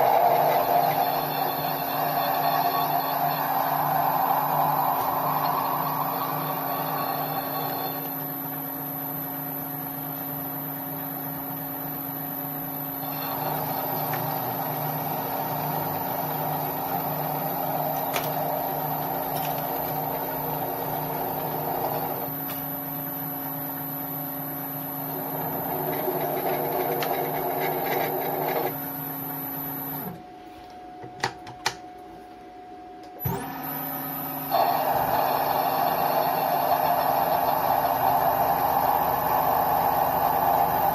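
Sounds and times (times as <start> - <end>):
lathe motor hum and whine: 0.0 - 30.3, 33.2 - 40.9.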